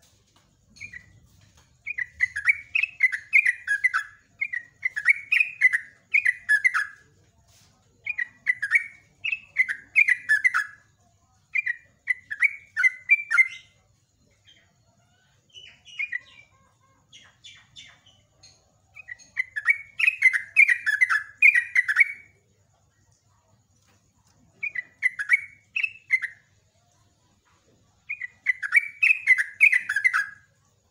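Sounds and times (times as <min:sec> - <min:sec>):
bulbul singing: 0:00.6 - 0:07.1, 0:08.0 - 0:10.9, 0:11.5 - 0:22.5, 0:24.4 - 0:27.0, 0:27.9 - 0:30.9.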